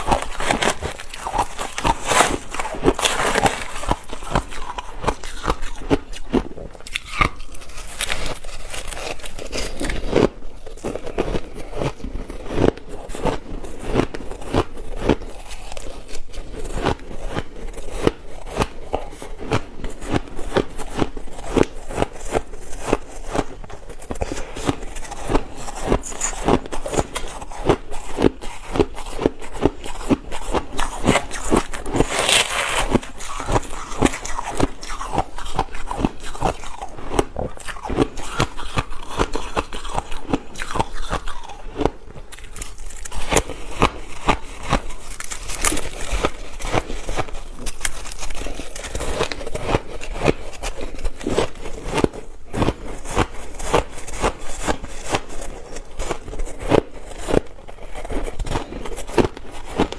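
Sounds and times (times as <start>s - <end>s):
person chewing ice: 0.0s - 59.9s.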